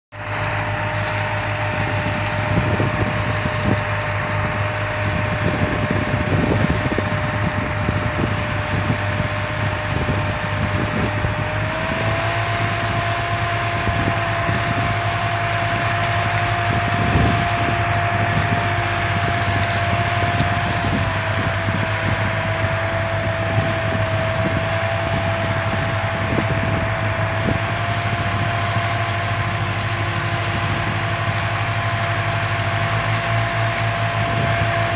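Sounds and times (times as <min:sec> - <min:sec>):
dry cane crackling under tyres: 0:00.1 - 0:34.9
steady whine: 0:00.1 - 0:34.9
tractor diesel engines under load: 0:00.1 - 0:34.9.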